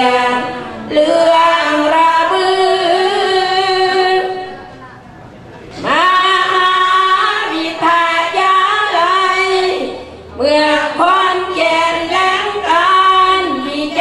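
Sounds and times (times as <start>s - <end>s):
woman singing: 0.0s - 4.5s, 5.8s - 14.0s.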